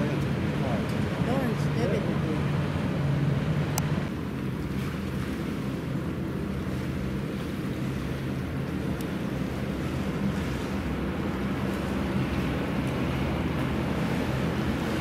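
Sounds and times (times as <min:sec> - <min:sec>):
distant hovercraft drone: 0:00.0 - 0:15.0.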